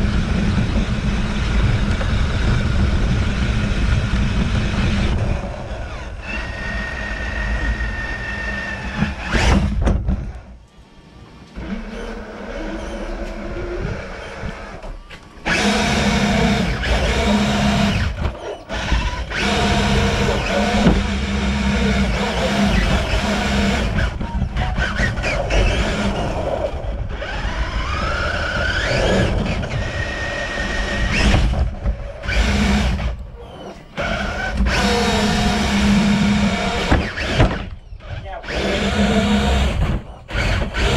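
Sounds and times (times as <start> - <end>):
electric motor and gears whining: 0.0 - 40.9.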